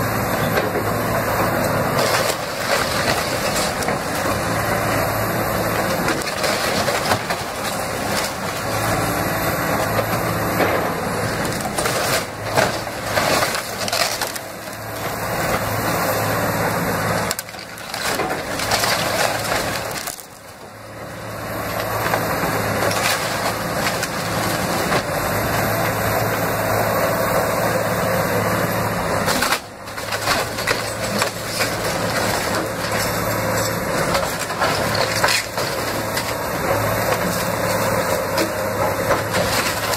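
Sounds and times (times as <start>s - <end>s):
diesel engine hum: 0.0s - 39.9s
timber crashing and splintering: 1.7s - 20.7s, 21.6s - 26.5s, 29.1s - 39.9s.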